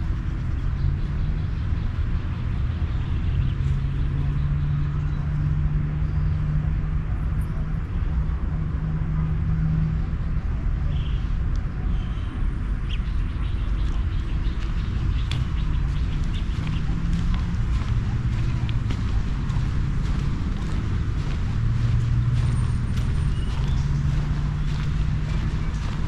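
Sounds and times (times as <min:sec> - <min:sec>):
vehicle engine hum: 0:00.0 - 0:26.0.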